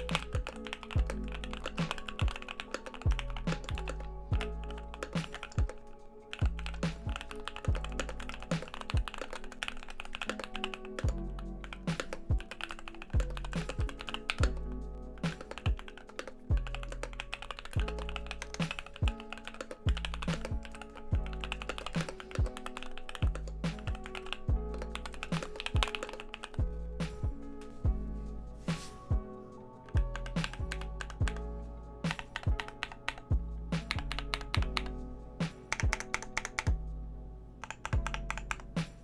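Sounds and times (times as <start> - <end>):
mechanical keyboard typing: 0.0 - 26.6, 30.1 - 31.4, 32.1 - 33.2, 33.9 - 35.0, 35.7 - 36.8, 37.6 - 38.7
background music: 0.0 - 39.0.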